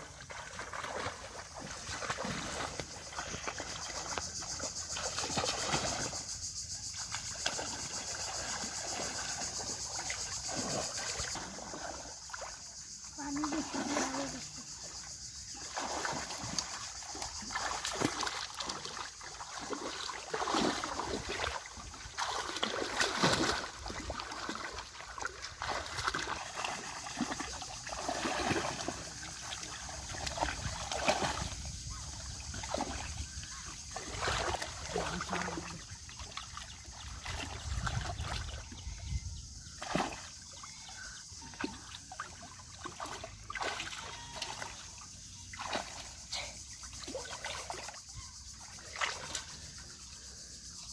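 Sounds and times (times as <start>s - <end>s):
water splashing and sloshing: 0.0s - 50.9s.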